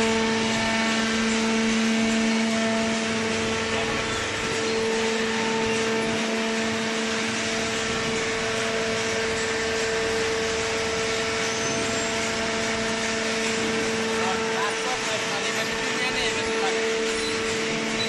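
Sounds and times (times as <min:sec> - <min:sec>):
motor and hydraulic pump humming: 0:00.0 - 0:18.0.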